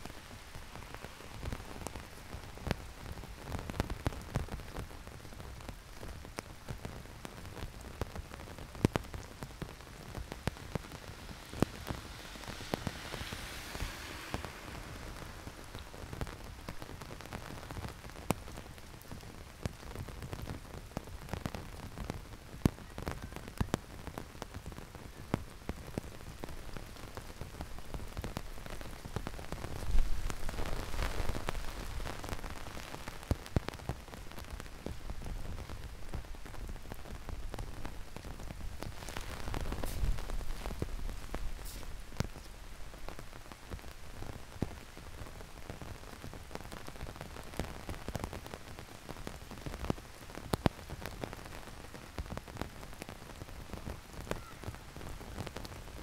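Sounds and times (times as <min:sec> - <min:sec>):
close raindrop hits: 0:00.0 - 0:56.0
heavy rain falling: 0:00.0 - 0:56.0.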